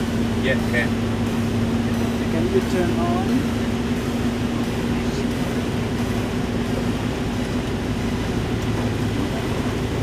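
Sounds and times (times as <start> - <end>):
bus engine drone: 0.0 - 10.0
tyres hissing on wet road: 0.0 - 10.0.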